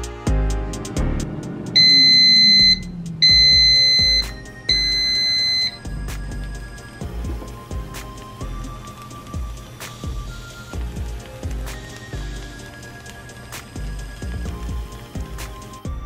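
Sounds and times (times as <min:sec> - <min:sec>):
background music: 0:00.0 - 0:16.0
air fryer alarm beeps: 0:01.7 - 0:16.0.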